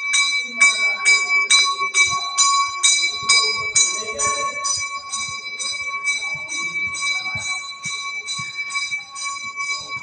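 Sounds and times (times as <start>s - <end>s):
temple bell ringing: 0.0s - 10.0s.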